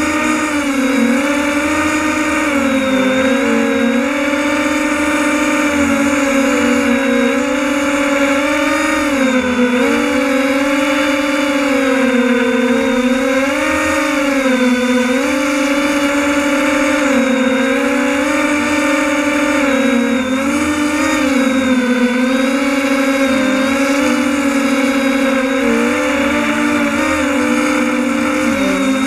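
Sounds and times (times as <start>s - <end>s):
drone motors buzzing: 0.0s - 29.0s.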